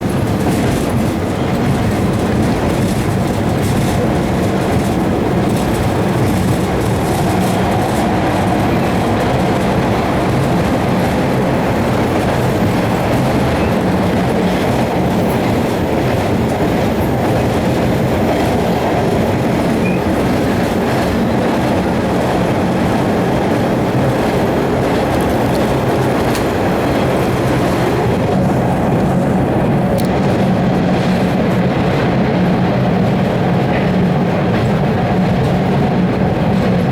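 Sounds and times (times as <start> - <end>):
subway train wheels rumbling: 0.0 - 36.9.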